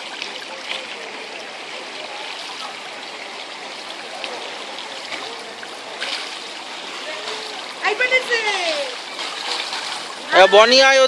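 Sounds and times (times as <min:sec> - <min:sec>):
pool water splashing: 0:00.0 - 0:11.0.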